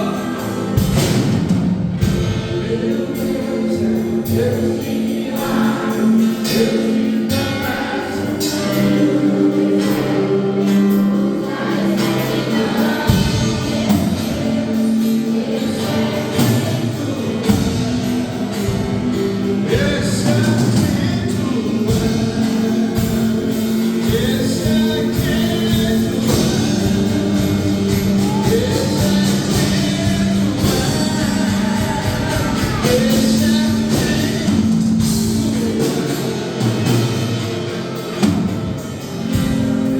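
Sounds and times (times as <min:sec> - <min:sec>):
gospel music with singing: 0:00.0 - 0:39.9.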